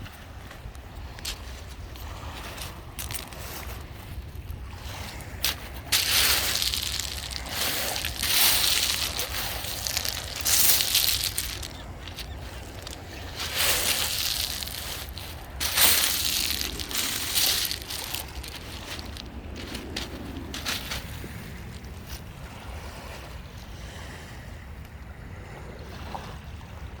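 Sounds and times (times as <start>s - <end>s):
low rumble of wind: 0.0s - 27.0s
small waves washing up beach: 0.8s - 24.5s.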